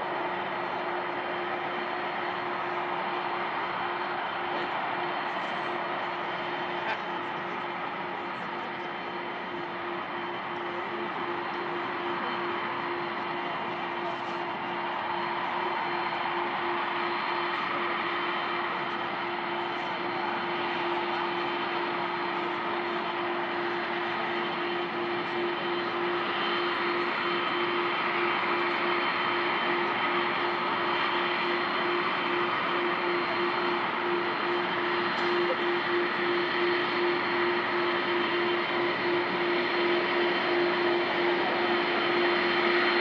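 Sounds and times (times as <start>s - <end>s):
jet engines taxiing: 0.0s - 43.0s.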